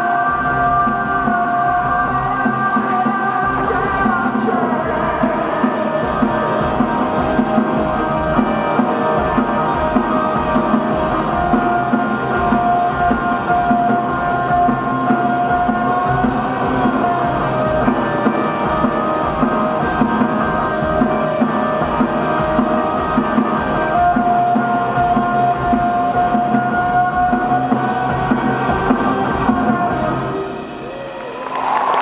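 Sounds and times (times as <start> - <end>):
steady drum beat: 0.0 - 31.1
electric guitar: 0.0 - 32.0.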